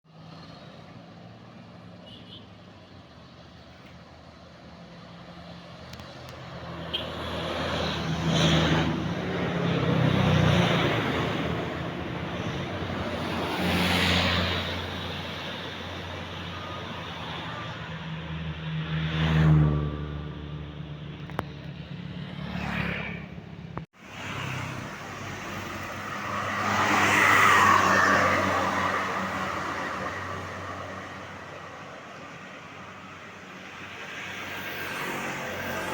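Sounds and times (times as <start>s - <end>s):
heavy vehicles driving past: 4.4s - 35.9s.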